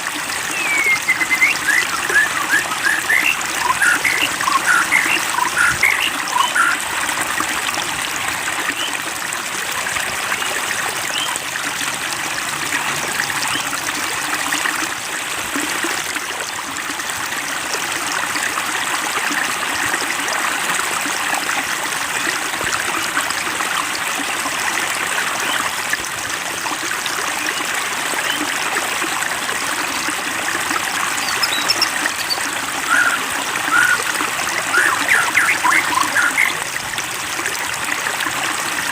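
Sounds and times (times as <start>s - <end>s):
water trickling and babbling: 0.0s - 38.9s.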